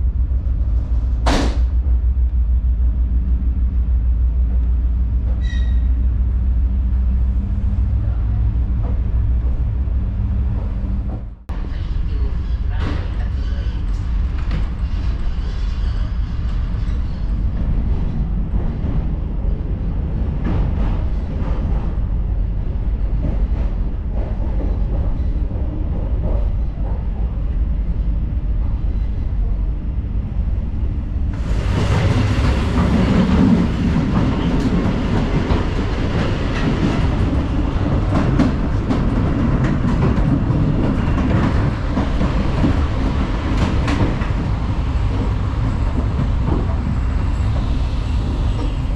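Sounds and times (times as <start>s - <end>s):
diesel train rumbling: 0.0s - 48.9s.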